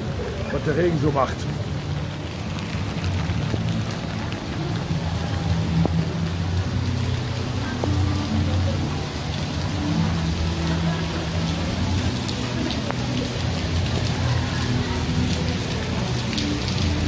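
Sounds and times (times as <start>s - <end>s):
heavy rain on cobblestones: 0.0s - 17.0s.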